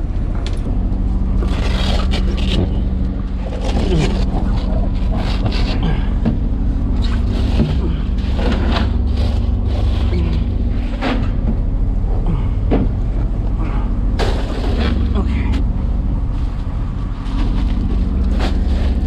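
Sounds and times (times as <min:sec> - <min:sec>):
boat engines running: 0:00.0 - 0:19.0.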